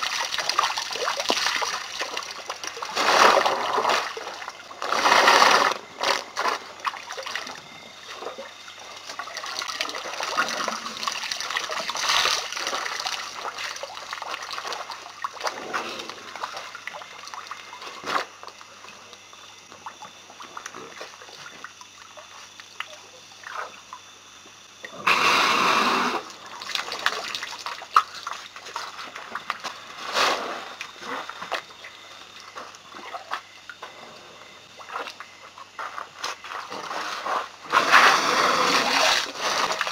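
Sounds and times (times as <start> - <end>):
water trickling and splashing: 0.0 - 5.5, 6.3 - 24.9, 26.2 - 37.0, 38.9 - 39.9.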